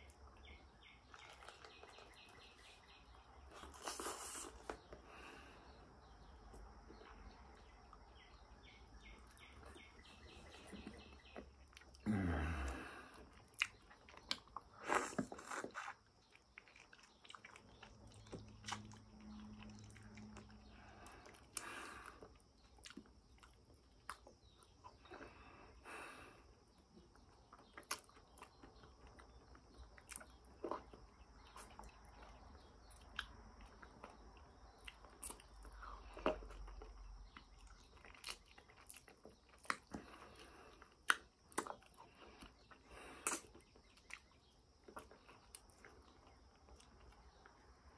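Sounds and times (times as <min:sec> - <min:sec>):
person chewing: 0:01.0 - 0:05.6, 0:09.1 - 0:26.2, 0:26.8 - 0:47.6.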